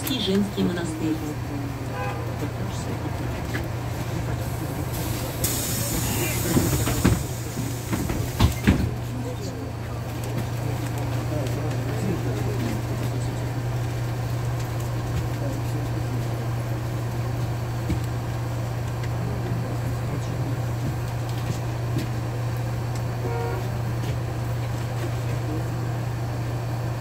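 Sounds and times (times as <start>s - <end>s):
bus diesel engine humming: 0.0s - 27.0s.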